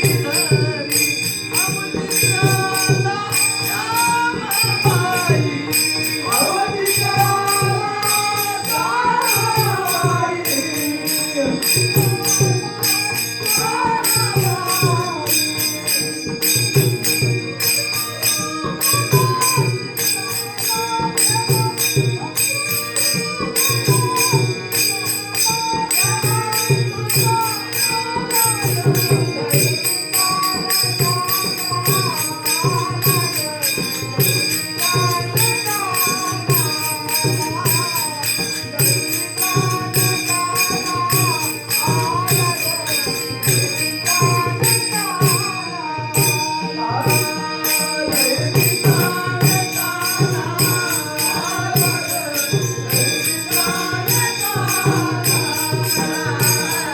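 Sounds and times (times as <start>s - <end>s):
devotional melody sung or played: 0.0s - 56.9s
drum beats: 0.0s - 56.9s
jingling hand cymbals: 0.0s - 56.9s.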